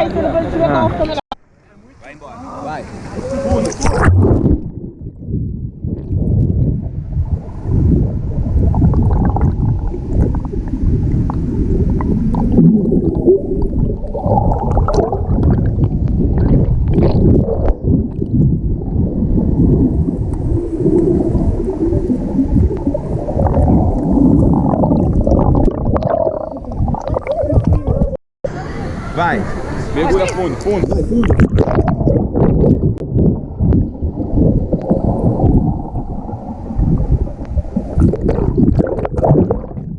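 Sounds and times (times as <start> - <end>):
underwater rumbling and gurgling: 2.9 - 39.9.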